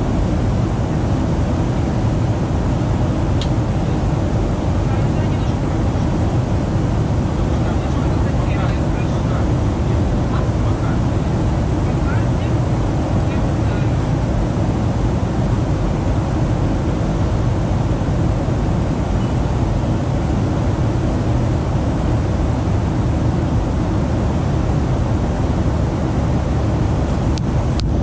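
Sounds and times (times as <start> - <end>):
jet airliner cabin noise: 0.0 - 28.0.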